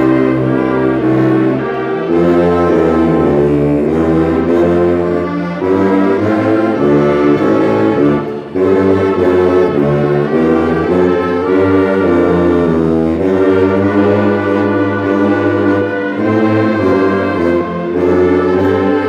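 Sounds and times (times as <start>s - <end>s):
saxophones playing a slow hymn: 0.0s - 19.0s.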